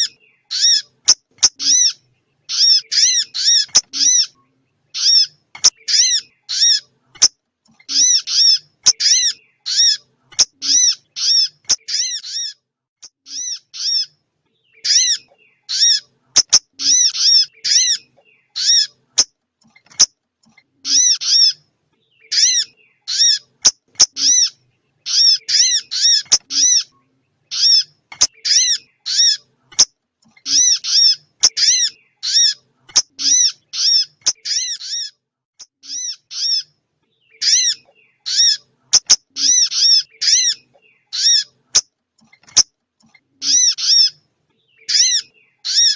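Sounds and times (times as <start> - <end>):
recorded songbird chirps: 0.0 - 45.9.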